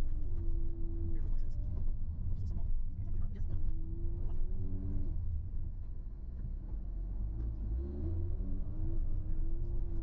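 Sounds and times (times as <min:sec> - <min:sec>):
car road and engine rumble: 0:00.1 - 0:10.0.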